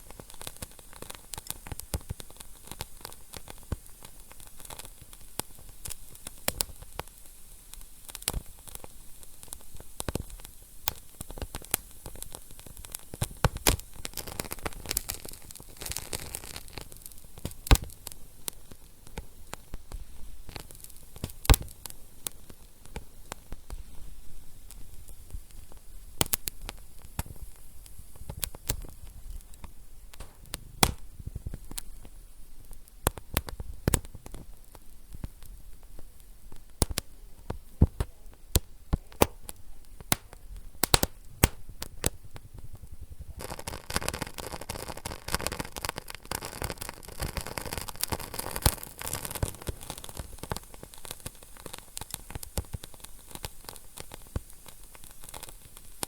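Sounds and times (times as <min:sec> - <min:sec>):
steady hiss: 0:00.0 - 0:56.0
wood fire crackling and popping: 0:00.0 - 0:56.0.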